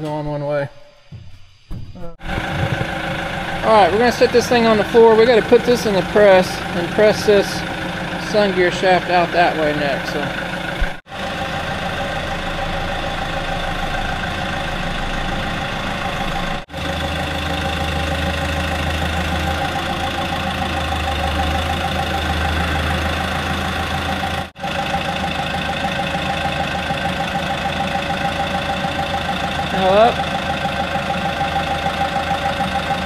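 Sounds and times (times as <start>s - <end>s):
machine humming: 0.7s - 33.0s.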